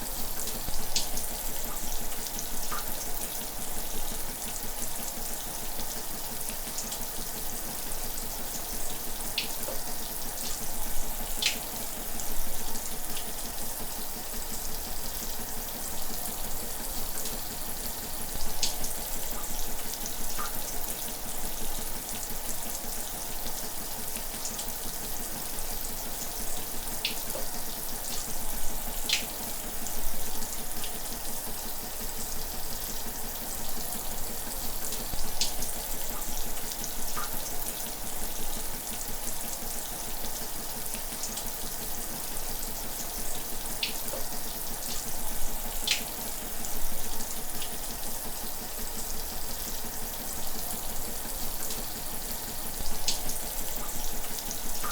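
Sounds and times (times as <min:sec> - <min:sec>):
shower running: 0:00.0 - 0:54.9.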